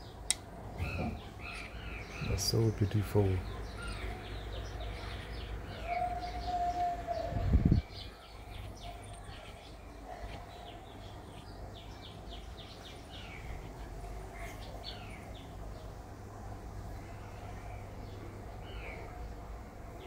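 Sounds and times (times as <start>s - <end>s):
low steady hum: 0.0s - 20.0s
small birds chirping: 0.0s - 20.0s.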